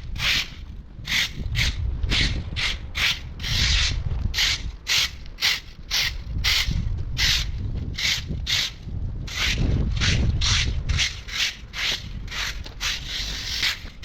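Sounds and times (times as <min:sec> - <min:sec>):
hand saw cutting a branch: 0:00.0 - 0:14.0
steady low rumble: 0:00.0 - 0:14.0.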